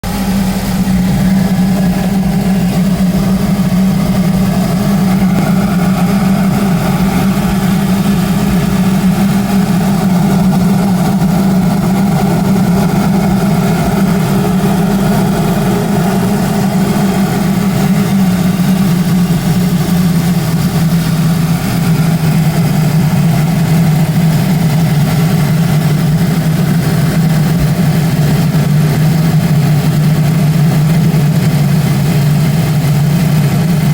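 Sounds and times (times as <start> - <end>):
car engine idling: 0.0 - 33.9
strange engine noise: 0.0 - 33.9.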